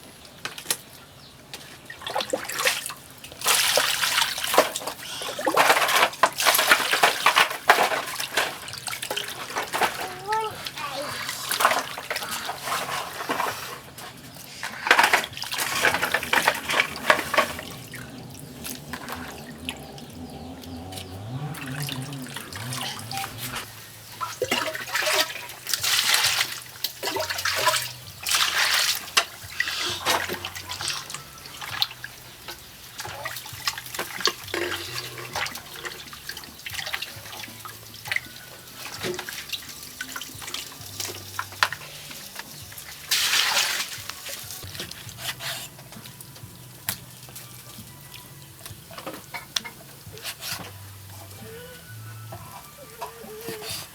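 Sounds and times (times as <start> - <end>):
water splashing and pouring: 1.6 - 51.7.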